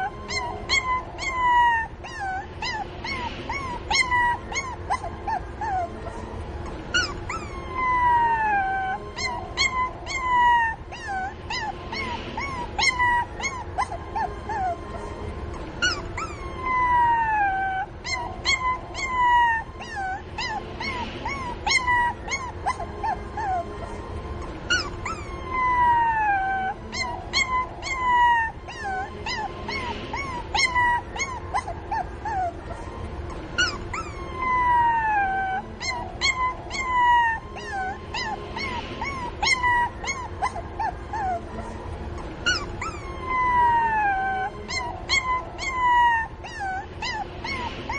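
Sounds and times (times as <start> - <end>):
puppy whimpering and crying: 0.0 - 47.9
puppy whining: 0.0 - 47.9.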